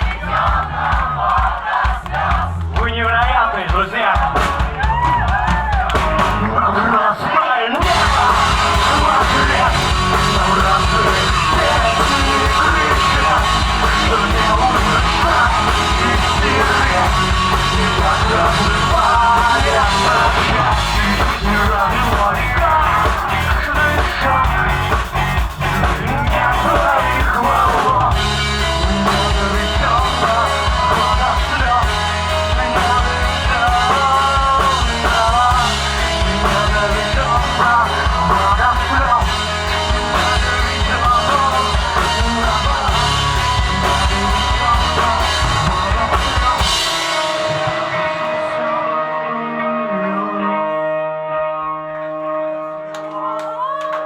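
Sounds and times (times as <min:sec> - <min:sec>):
drum kit: 0:00.0 - 0:06.9, 0:07.8 - 0:48.6
rock band playing: 0:00.0 - 0:07.0, 0:07.8 - 0:52.5
person singing: 0:06.0 - 0:25.0, 0:25.8 - 0:54.0.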